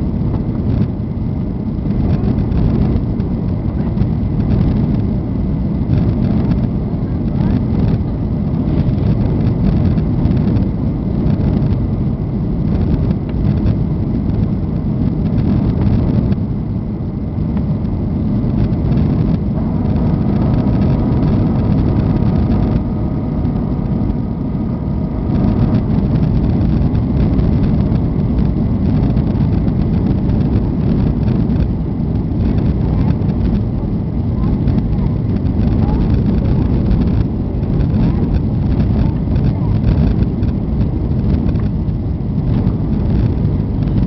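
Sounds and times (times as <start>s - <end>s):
airliner cabin engine roar: 0.0s - 44.0s
faint whine: 0.0s - 44.0s.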